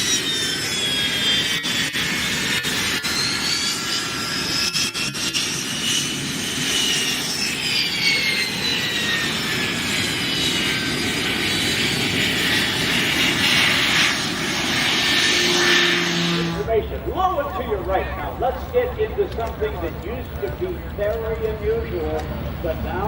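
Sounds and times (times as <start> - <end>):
jet engines flying past: 0.0 - 23.0.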